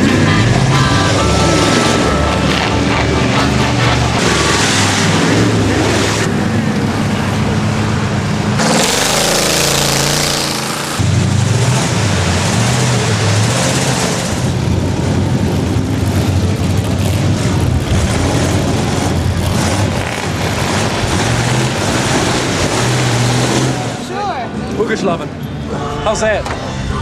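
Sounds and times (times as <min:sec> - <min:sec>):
truck engine revving hard: 0:00.0 - 0:24.2.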